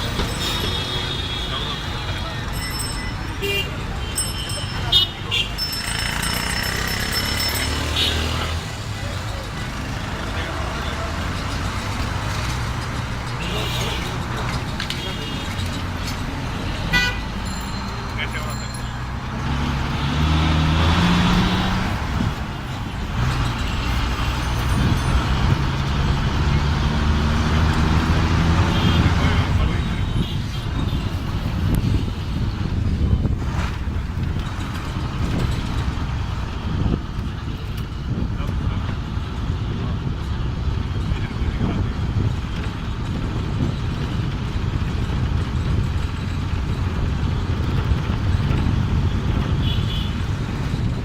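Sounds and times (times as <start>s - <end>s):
heavy vehicle engine humming: 0.0s - 51.0s
road traffic: 0.0s - 51.0s.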